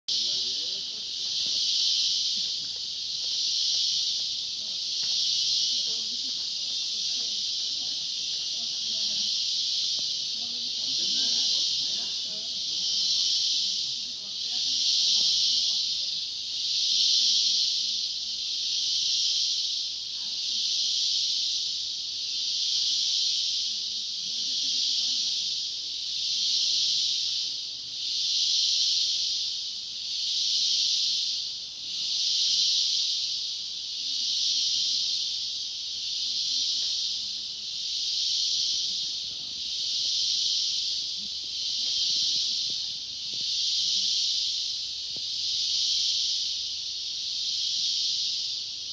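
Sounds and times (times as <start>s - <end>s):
cicadas buzzing: 0.0s - 48.9s.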